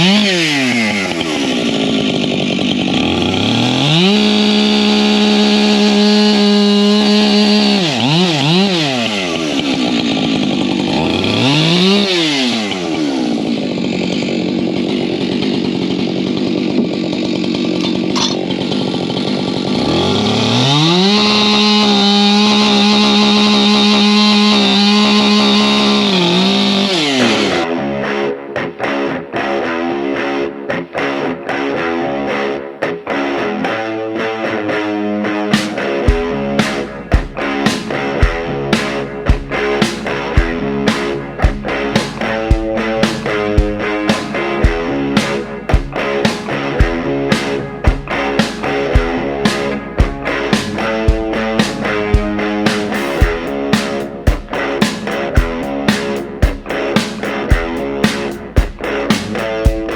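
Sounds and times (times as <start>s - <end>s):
chainsaw engine revving: 0.0s - 28.3s, 33.6s - 59.9s.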